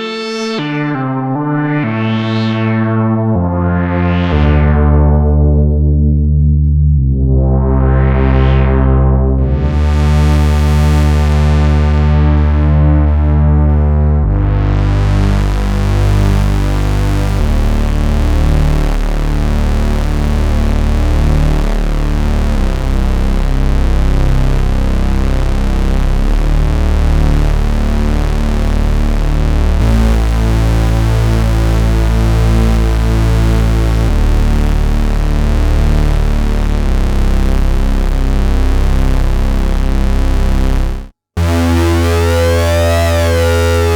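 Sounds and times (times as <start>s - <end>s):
analog synthesizer bass notes: 0.0s - 43.9s.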